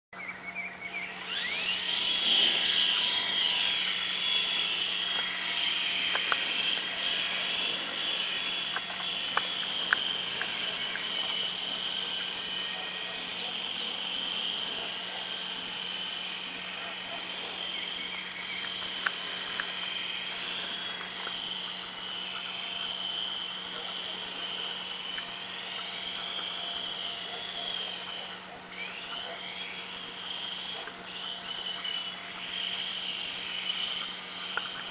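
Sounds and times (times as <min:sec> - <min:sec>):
toy helicopter rotor whining: 0:00.3 - 0:34.9.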